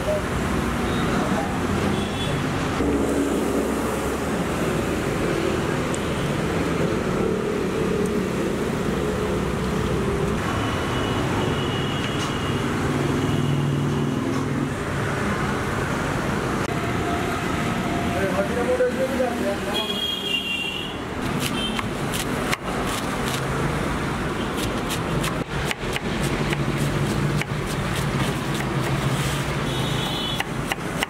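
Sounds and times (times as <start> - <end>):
busy road traffic: 0.0 - 31.0.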